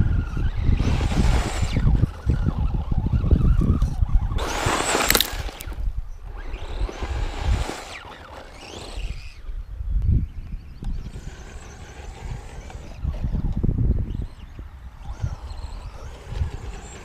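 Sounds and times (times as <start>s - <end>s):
truck motor revving: 0.0s - 9.5s, 10.2s - 17.0s
wind on microphone: 0.0s - 17.0s.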